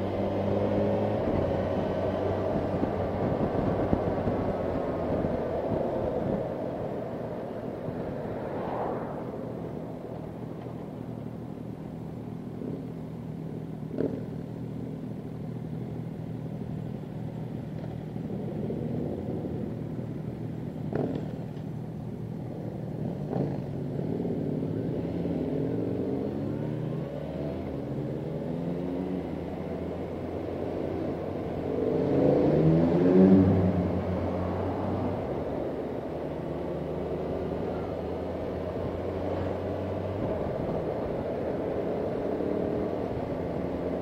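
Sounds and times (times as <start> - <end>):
motorcycle engines running: 0.0 - 8.2, 9.6 - 44.0.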